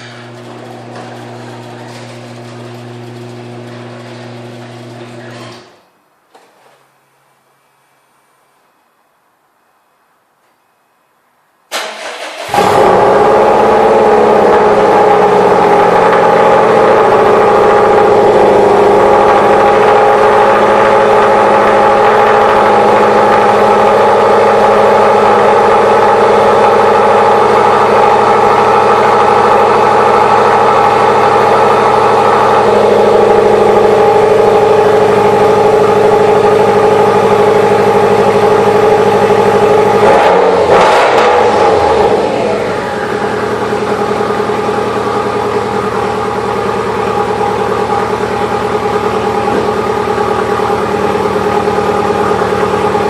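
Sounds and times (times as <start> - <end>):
car engine idling: 0.0 - 5.3, 11.8 - 53.0.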